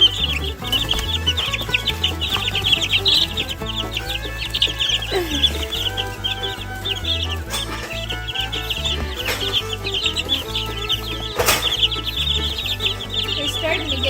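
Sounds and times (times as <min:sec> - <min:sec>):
background music with bass line: 0:00.0 - 0:14.0
chicks peeping: 0:00.0 - 0:14.0.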